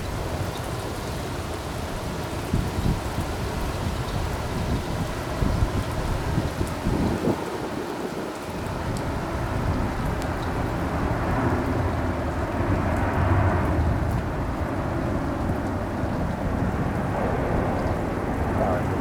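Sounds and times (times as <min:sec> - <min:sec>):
heavy rain: 0:00.0 - 0:19.0
wind buffeting microphone: 0:00.0 - 0:19.0.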